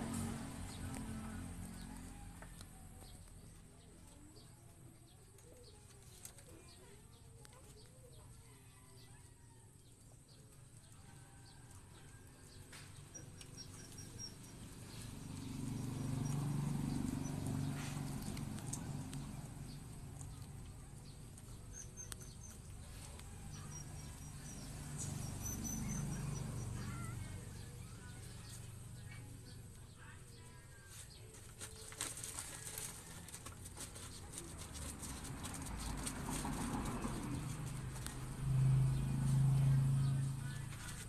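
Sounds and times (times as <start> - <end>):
small birds chirping: 0.1 - 41.0.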